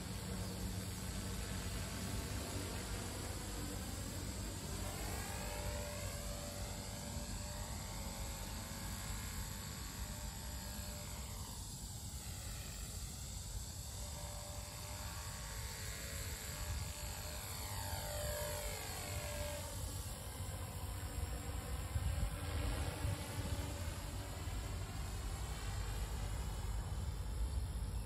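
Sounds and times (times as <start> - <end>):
rc helicopter buzzing: 0.0 - 28.0.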